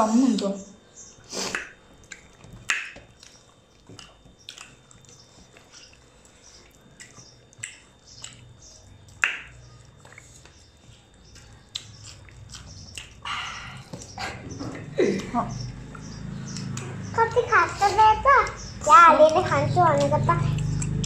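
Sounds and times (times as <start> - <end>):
people chewing with lip smacks: 1.2 - 21.0.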